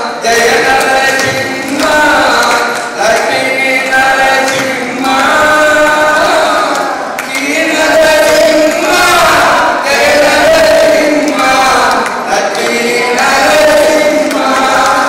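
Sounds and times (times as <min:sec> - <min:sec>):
men singing in unison: 0:00.0 - 0:15.0
person singing into microphone: 0:00.0 - 0:15.0.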